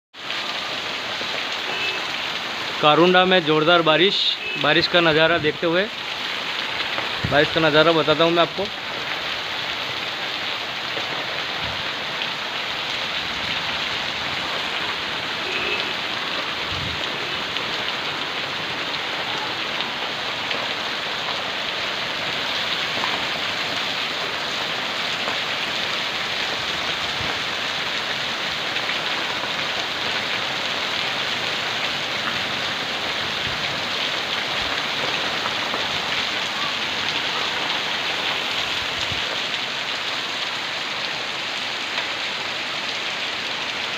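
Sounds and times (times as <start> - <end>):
heavy rain pouring: 0.1 - 43.9.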